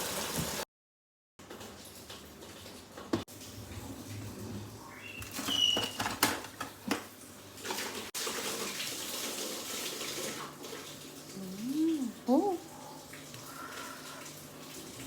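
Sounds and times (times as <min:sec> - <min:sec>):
running water: 0:01.5 - 0:15.0.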